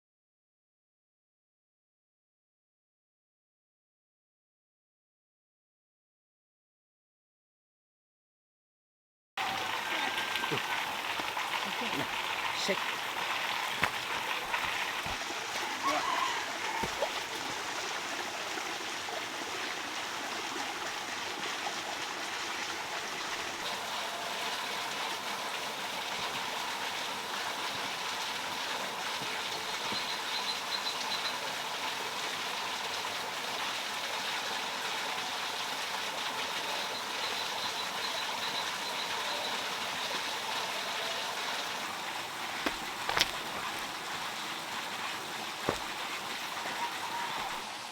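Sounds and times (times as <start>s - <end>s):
water running: 9.4s - 47.9s.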